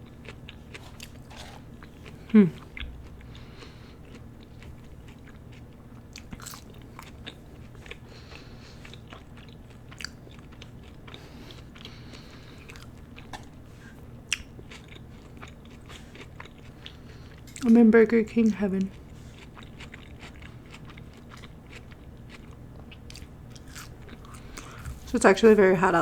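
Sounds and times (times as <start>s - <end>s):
chewing food: 0.0s - 25.6s
air conditioner hum: 0.0s - 26.0s.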